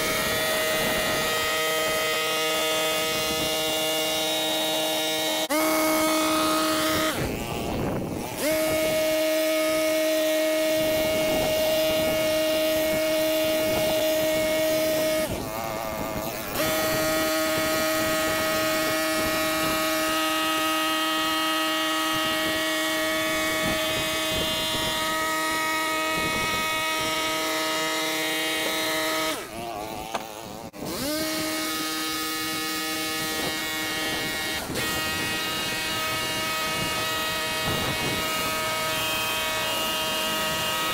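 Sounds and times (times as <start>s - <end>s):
hedge trimmer engine running: 0.0s - 40.9s.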